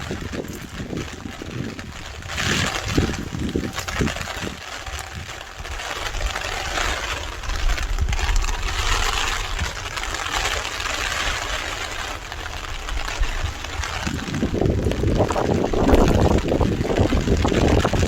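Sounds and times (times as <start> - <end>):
heavy rain hissing: 0.0 - 18.0
wind rumbling on microphone: 0.0 - 18.0.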